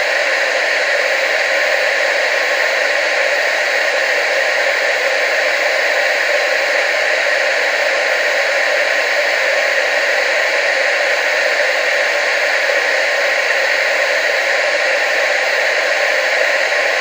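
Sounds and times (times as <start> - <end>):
television static hiss: 0.0 - 17.0.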